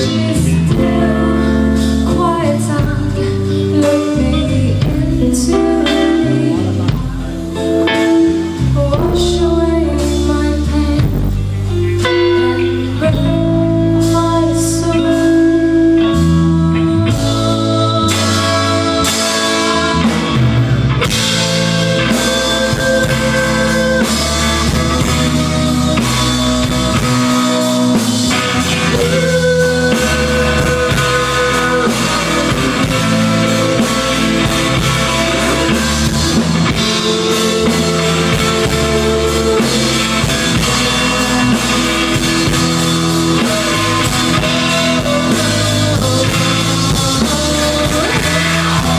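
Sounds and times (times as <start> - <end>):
live rock band instrumental: 0.0 - 48.9.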